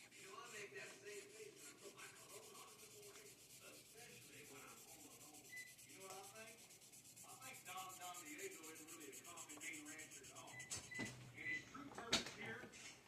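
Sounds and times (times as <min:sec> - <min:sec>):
pencil scratching on paper: 0:00.0 - 0:11.1.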